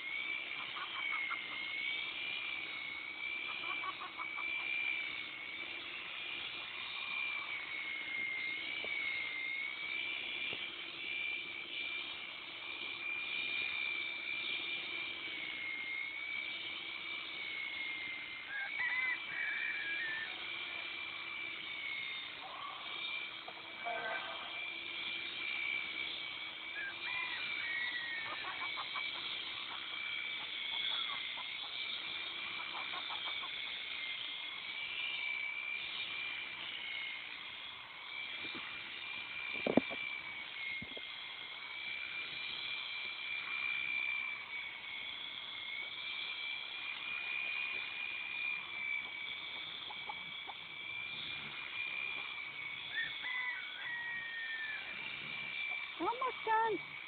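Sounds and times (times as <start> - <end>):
electric shears whining: 0.0 - 57.0.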